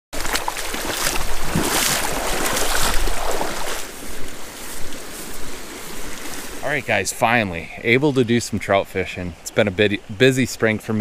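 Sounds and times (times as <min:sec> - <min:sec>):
stream rushing over rocks: 0:00.2 - 0:11.0.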